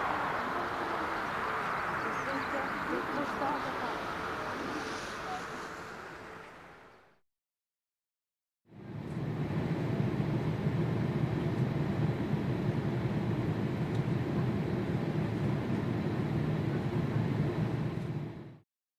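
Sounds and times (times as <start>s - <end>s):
jet engine rumble: 0.0s - 7.2s, 8.7s - 18.6s.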